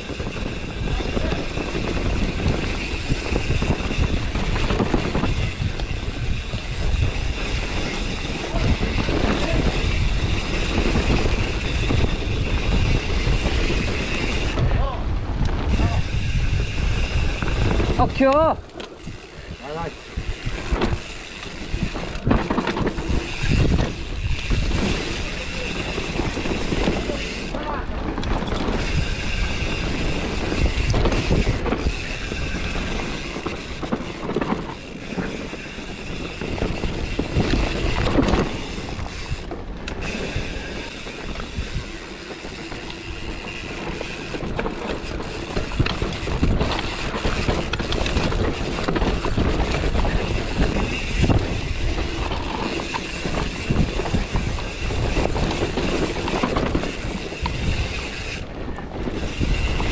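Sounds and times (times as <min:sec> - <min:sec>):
bike rattling and knocking: 0:00.0 - 0:59.9
bike tyres on dirt trail: 0:00.0 - 0:59.9
wind rushing over the microphone: 0:00.0 - 0:59.9.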